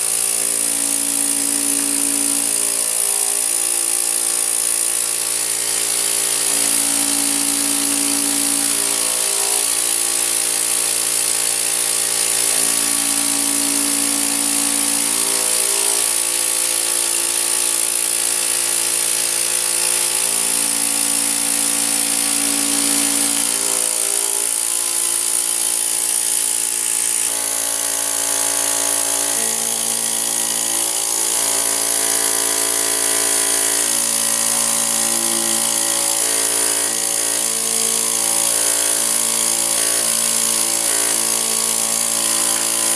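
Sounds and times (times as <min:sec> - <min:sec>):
vacuum motor hum with whine: 0:00.0 - 0:42.9.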